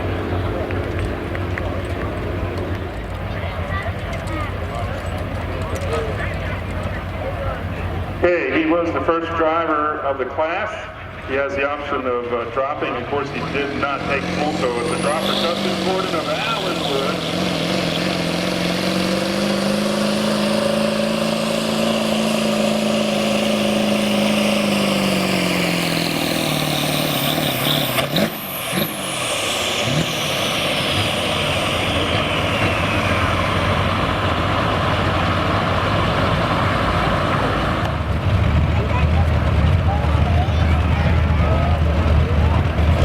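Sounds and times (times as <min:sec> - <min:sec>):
diesel truck engine under load: 0:00.0 - 0:43.0.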